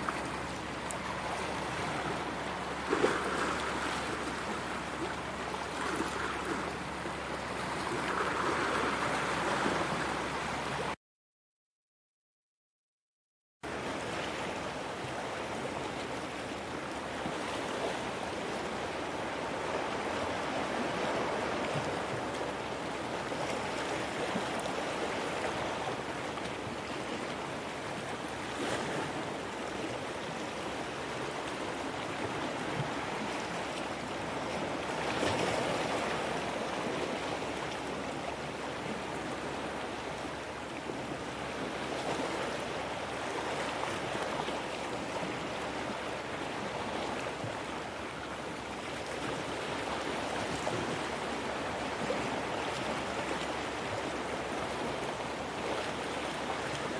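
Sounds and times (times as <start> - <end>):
rushing water: 0.0 - 11.0, 13.7 - 56.9.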